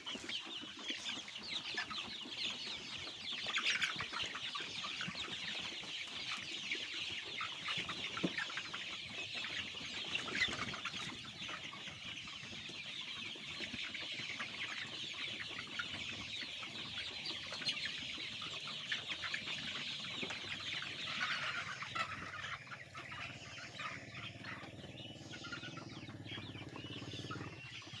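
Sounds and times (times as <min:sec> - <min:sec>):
chicks peeping and clucking: 0:00.0 - 0:28.0.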